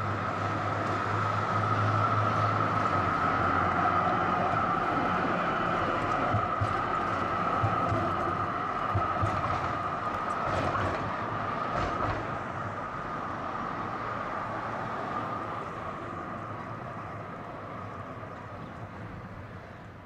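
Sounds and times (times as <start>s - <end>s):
tram whine on rails: 0.0s - 20.0s.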